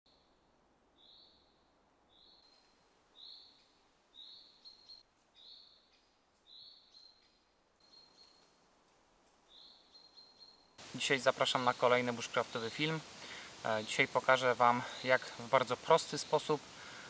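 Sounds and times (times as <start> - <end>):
faint steady hiss: 0.1 - 17.0.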